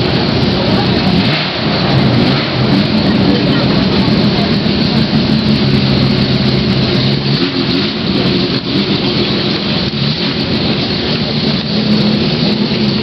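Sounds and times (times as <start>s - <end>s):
race car engine at low revs: 0.0s - 13.0s.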